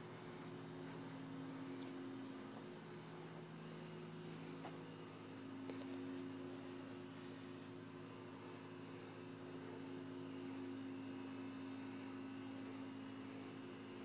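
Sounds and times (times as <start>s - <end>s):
low hum of held tones: 0.0s - 14.0s.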